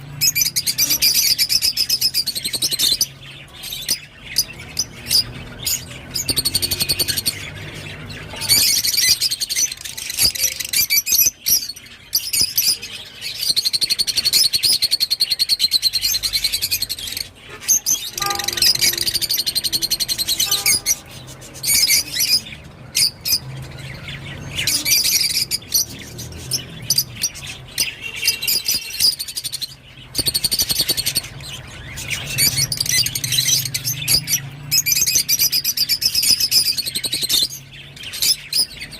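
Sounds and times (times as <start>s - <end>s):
birds chirping high-pitched: 0.0s - 38.9s.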